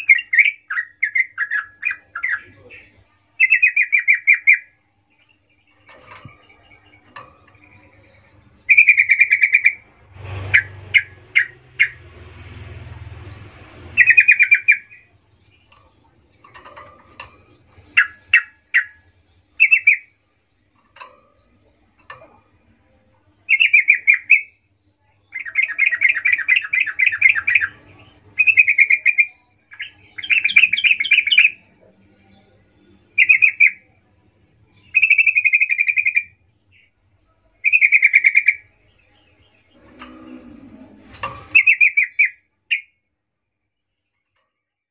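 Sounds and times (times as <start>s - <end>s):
bird singing trilled phrases: 0.0s - 9.9s, 10.5s - 12.0s, 12.7s - 43.1s.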